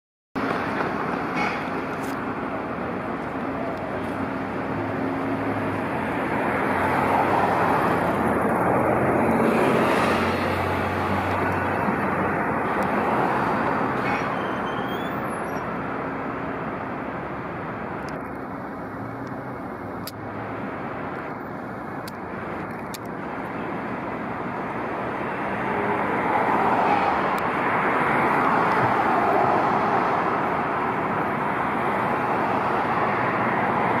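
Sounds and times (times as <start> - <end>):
road traffic passing: 0.4 - 34.0.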